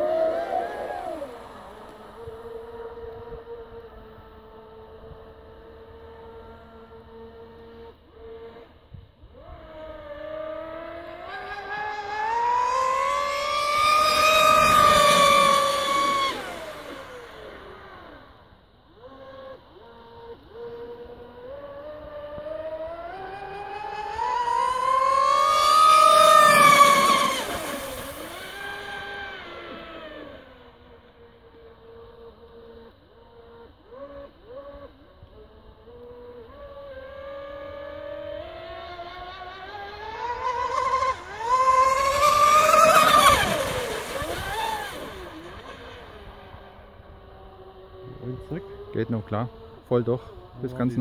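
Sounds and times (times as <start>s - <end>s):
electric motor whine: 0.0s - 51.0s.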